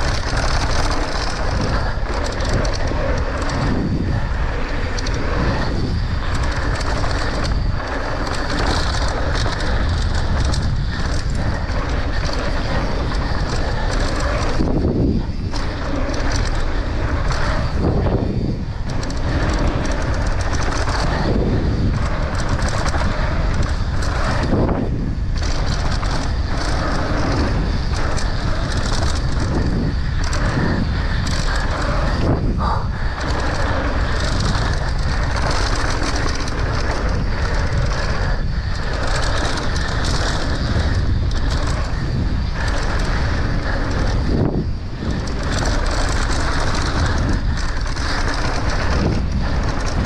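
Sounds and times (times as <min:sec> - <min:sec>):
bike rattling: 0:00.0 - 0:50.0
tyres running on dirt: 0:00.0 - 0:50.0
wind rushing over microphone: 0:00.0 - 0:50.0.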